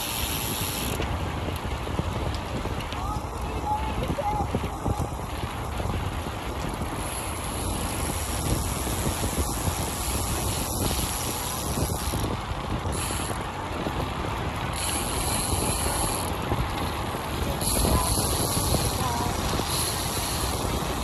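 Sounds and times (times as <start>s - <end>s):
bicycle freewheel ticking: 0.0s - 21.0s
steady rush of noise: 0.0s - 21.0s.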